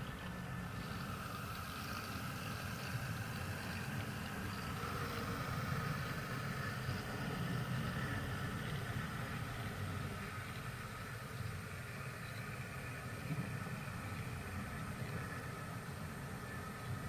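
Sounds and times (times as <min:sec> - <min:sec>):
model train locomotive humming: 0:00.0 - 0:17.0.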